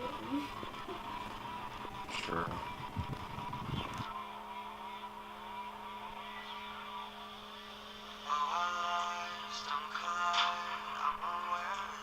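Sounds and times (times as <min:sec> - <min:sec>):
low hum: 0:00.0 - 0:12.0
music: 0:00.0 - 0:12.0.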